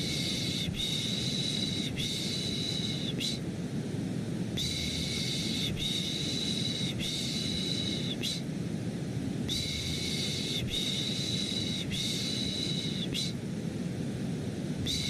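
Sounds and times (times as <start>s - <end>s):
low white noise hiss: 0.0s - 15.0s.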